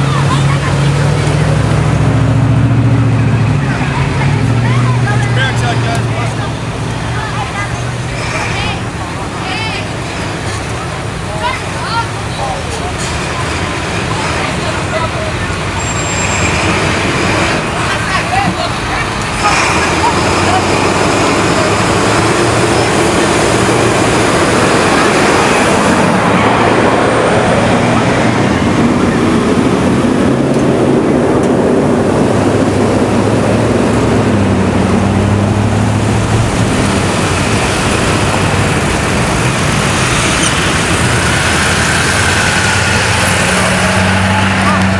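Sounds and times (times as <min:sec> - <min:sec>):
vehicles driving past: 0:00.0 - 0:44.9.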